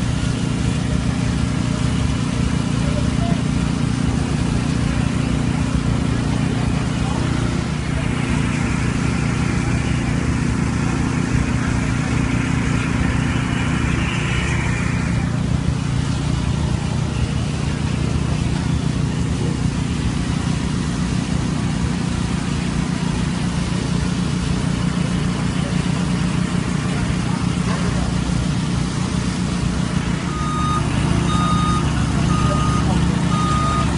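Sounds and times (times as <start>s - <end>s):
construction site noise: 0.0s - 33.9s
diesel engine running: 0.0s - 33.9s.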